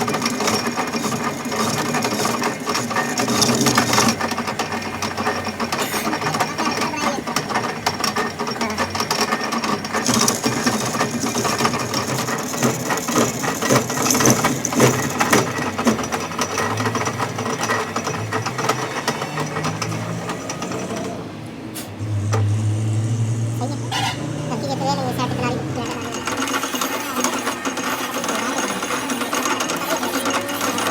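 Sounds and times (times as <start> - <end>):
machine rattling clatter: 0.0 - 30.9.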